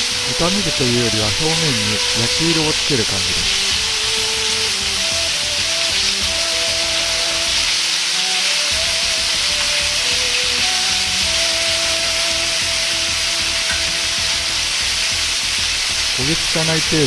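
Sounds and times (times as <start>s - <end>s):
chicken sizzling in hot oil: 0.0s - 17.0s
light background music: 0.0s - 17.0s.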